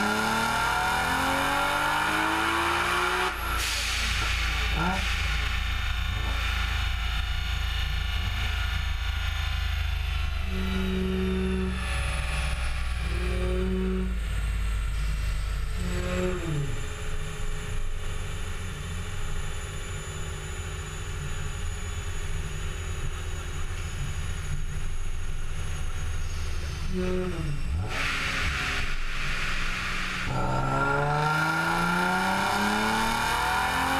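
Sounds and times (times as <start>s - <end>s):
car engine low rumble: 0.0s - 33.9s
supercharger whine: 0.0s - 33.9s.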